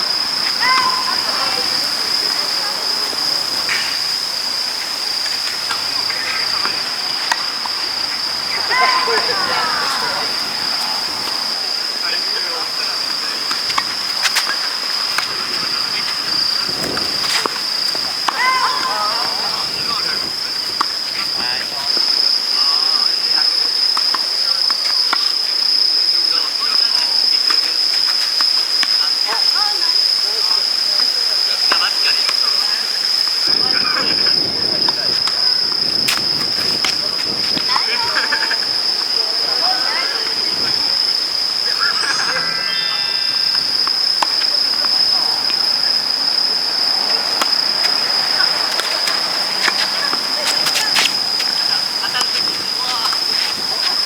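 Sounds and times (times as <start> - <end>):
faint distant voices: 0.0 - 54.0
high-pitched insect chorus: 0.0 - 54.0.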